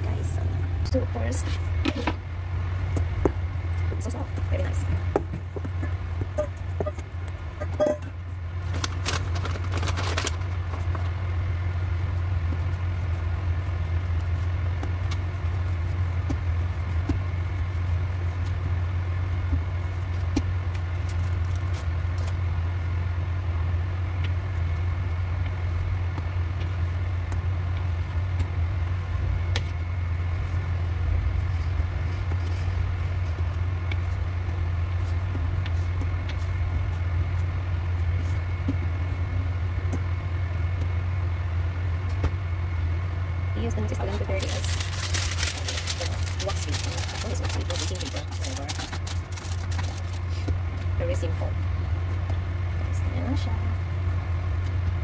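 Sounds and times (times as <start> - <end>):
low mechanical drone: 0.0 - 55.0.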